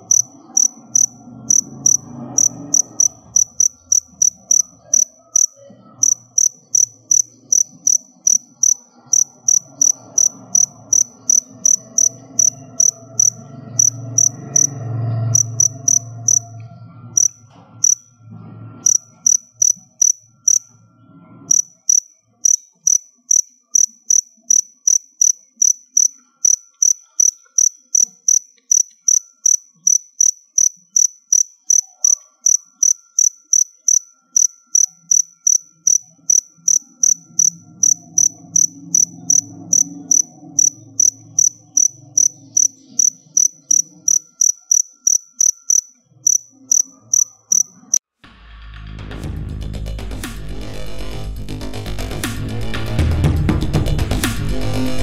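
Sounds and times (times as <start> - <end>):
cricket chirping: 0.0 - 16.6, 17.2 - 18.1, 18.8 - 20.7, 21.5 - 48.0.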